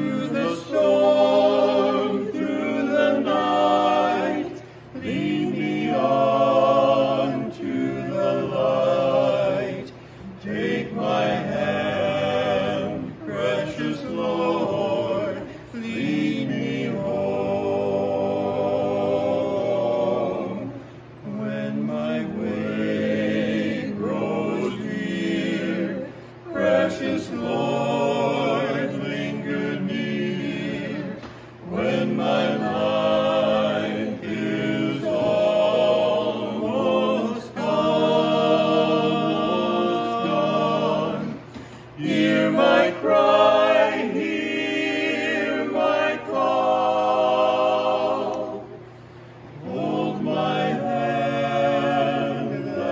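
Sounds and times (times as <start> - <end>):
vocal quartet singing hymn: 0.0 - 52.9.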